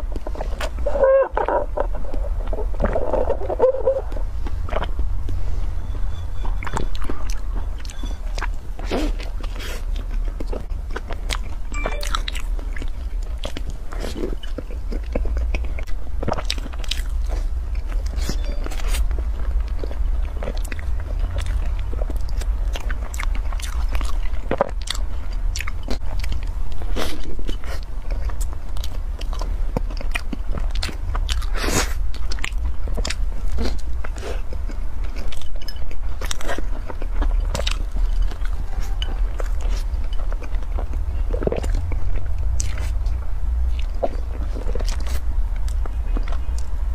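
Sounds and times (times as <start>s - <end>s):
chewing crunchy bun: 0.0s - 46.9s.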